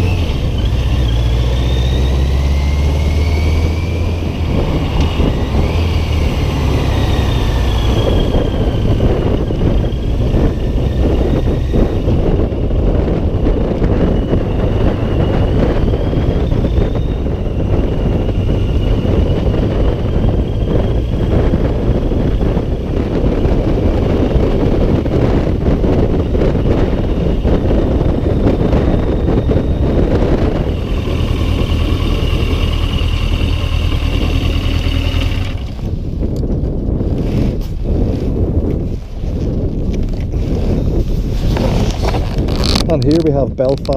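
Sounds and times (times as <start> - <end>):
heavy wind buffeting: 0.0 - 43.9
motorcycle engine hum: 0.0 - 43.9.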